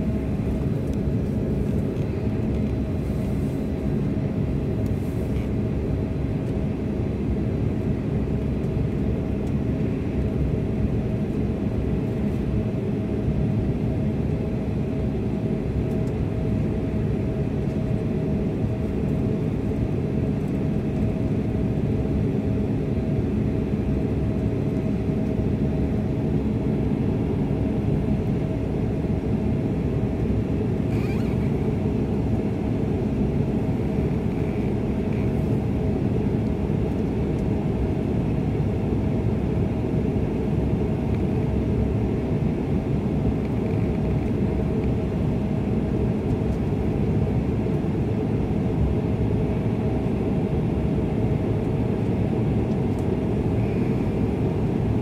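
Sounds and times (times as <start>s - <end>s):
jet engine cabin drone: 0.0s - 55.0s
steady hum tone: 0.0s - 55.0s.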